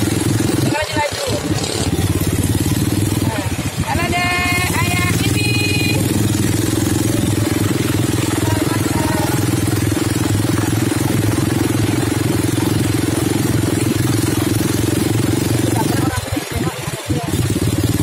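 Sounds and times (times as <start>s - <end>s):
atv engine running steadily: 0.0s - 18.0s.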